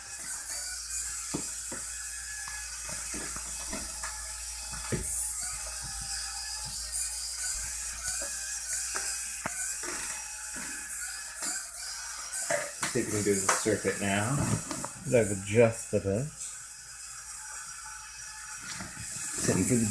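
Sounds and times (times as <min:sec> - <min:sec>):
gear motors whirring: 0:00.0 - 0:19.9.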